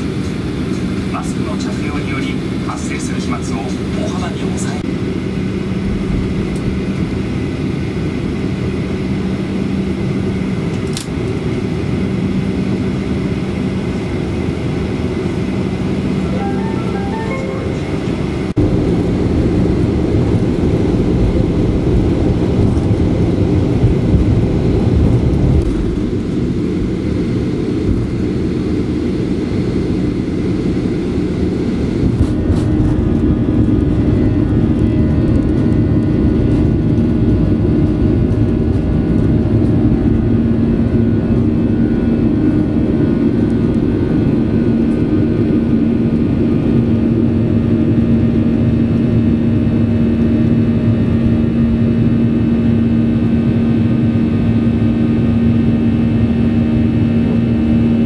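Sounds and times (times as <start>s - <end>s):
airliner cabin engine rumble: 0.0s - 58.0s
steady engine hum: 0.0s - 58.0s.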